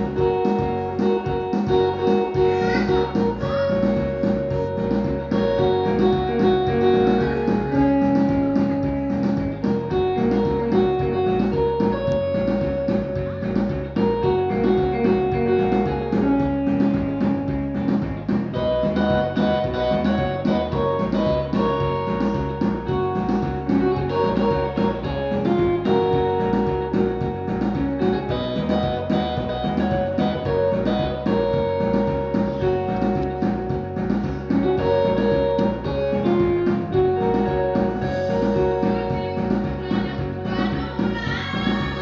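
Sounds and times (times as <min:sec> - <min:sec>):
guitar: 0:00.0 - 0:42.0
held melody line: 0:00.0 - 0:42.0
steady drum beat: 0:00.0 - 0:42.0.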